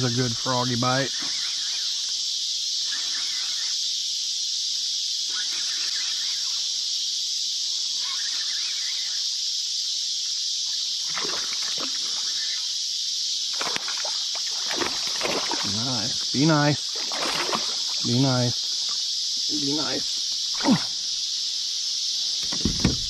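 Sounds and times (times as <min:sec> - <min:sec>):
insect chorus buzzing: 0:00.0 - 0:23.0.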